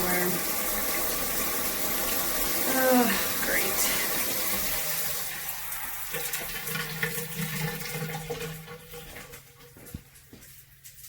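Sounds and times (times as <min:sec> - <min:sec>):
faint hum in pipes: 0:00.0 - 0:11.0
shower water spraying and splashing: 0:00.0 - 0:11.0.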